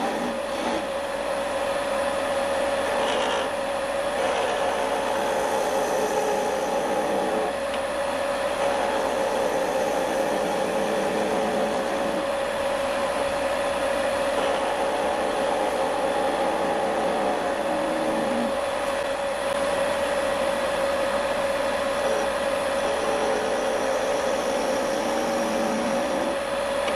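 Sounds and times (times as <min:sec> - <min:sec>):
chisel cutting spinning wood: 0:00.0 - 0:26.9
wood lathe motor hum: 0:00.0 - 0:26.9.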